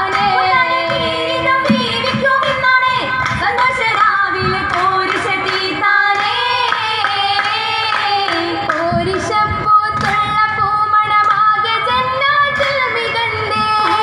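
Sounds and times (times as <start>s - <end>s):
girls singing in unison: 0.0s - 14.0s
rhythmic hand claps: 0.0s - 14.0s.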